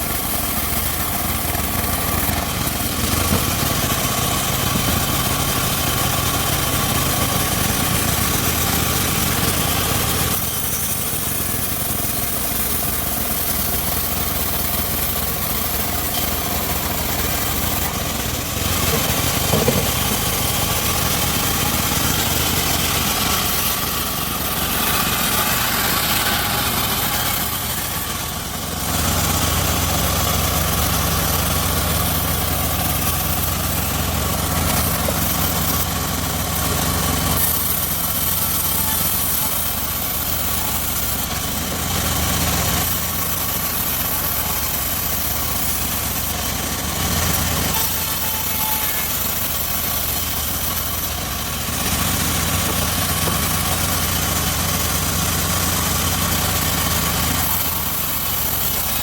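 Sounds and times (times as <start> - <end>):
circular saw engine running: 0.0 - 59.0.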